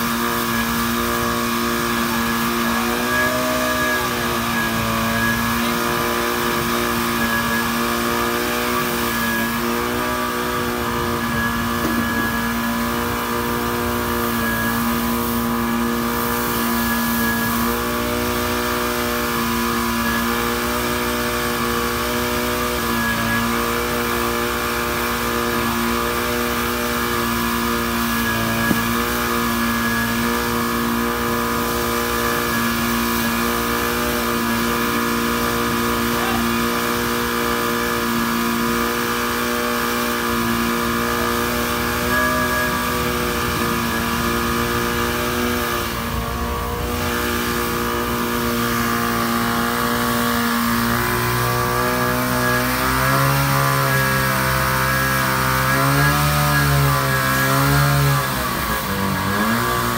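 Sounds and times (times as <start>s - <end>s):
fire pump engine running: 0.0s - 59.9s.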